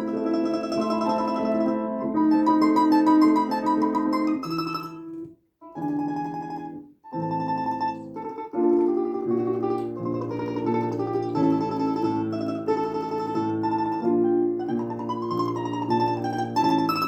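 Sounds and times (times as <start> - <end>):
solo instrumental melody with chords: 0.0 - 17.0.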